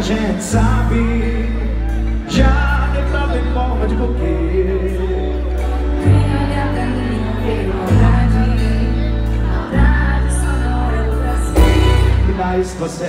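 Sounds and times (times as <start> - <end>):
person singing: 0.0 - 12.7
deep bass notes: 0.0 - 13.0
live band playing: 0.0 - 13.0.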